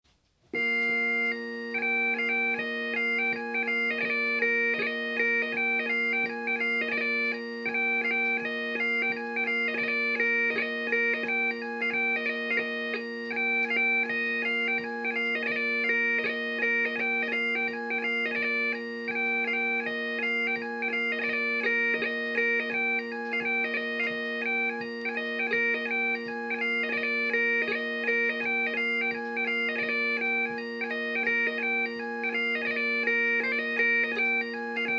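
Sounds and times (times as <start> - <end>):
bagpipe playing: 0.6 - 34.9.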